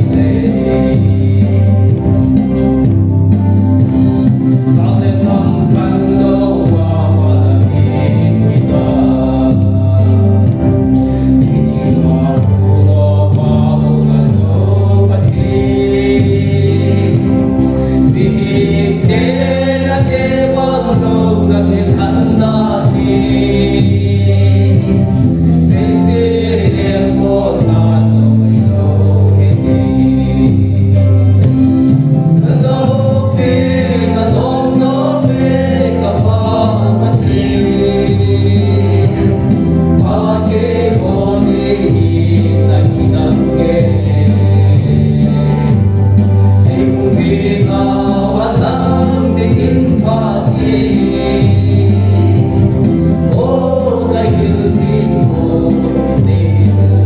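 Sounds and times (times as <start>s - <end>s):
gospel singing: 0.0s - 57.0s
instrumental backing with bass: 0.0s - 57.0s.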